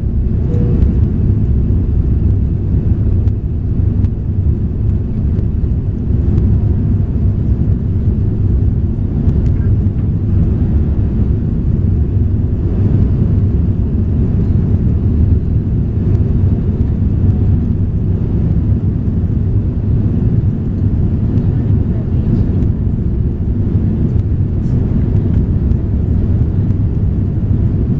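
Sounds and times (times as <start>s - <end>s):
airplane engines rumbling in cabin: 0.0s - 27.9s.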